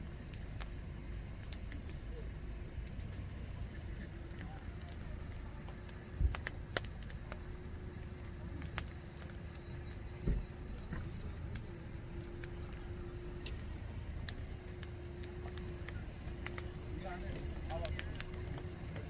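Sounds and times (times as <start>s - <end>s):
campfire crackling and popping: 0.0s - 19.0s
steady low rumble: 0.0s - 19.0s.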